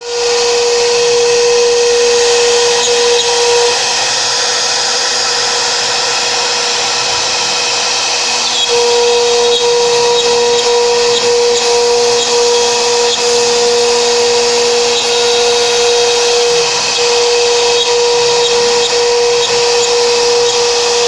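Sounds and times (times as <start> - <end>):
cnc router hissing: 0.0 - 21.0
router whine: 0.0 - 21.0.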